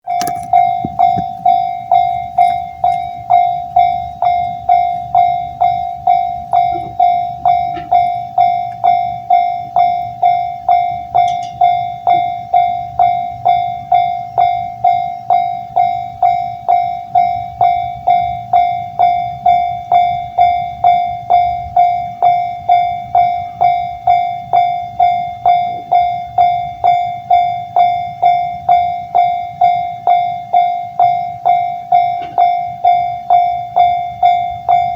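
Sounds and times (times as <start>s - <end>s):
level crossing warning bell: 0.0s - 34.9s.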